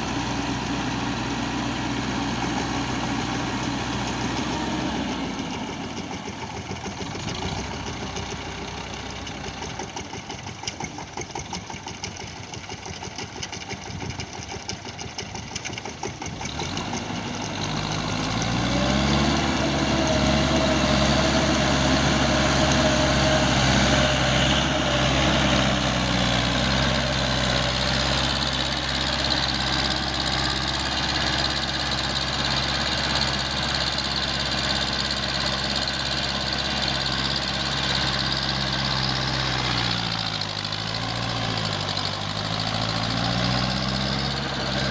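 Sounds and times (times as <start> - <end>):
tractor diesel engine: 0.0 - 44.9.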